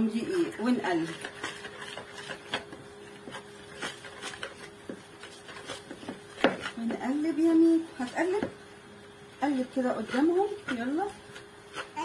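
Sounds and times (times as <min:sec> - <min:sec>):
whisk scraping plastic bowl: 0:00.2 - 0:08.5, 0:09.5 - 0:12.0.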